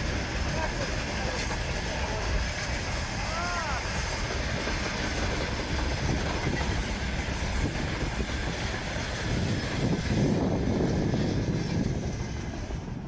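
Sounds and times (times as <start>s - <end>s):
freight train wagons rolling: 0.0s - 13.0s.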